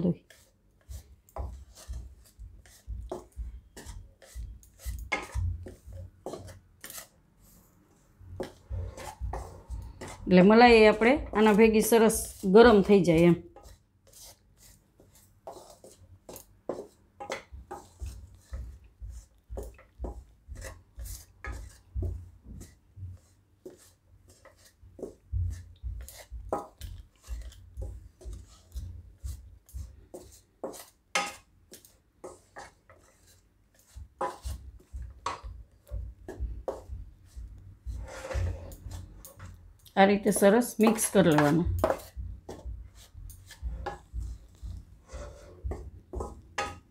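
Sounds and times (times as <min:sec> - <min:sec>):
spatula scraping pan: 0:00.0 - 0:46.9.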